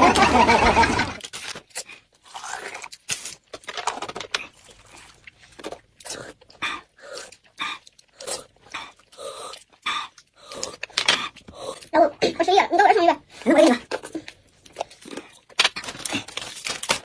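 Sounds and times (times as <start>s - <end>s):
crunching and chewing: 0.2s - 12.0s, 13.8s - 17.0s.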